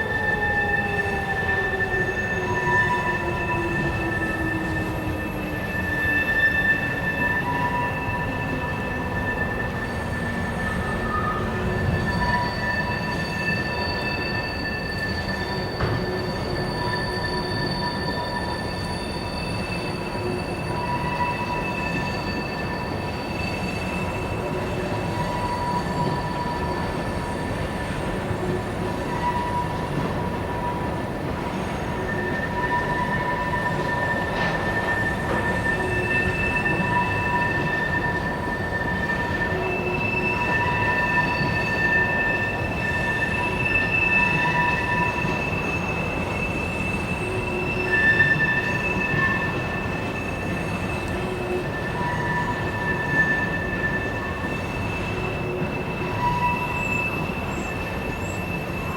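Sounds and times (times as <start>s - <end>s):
steel wheels squealing: 0.0s - 58.9s
train wheels rumbling on rails: 0.0s - 58.9s.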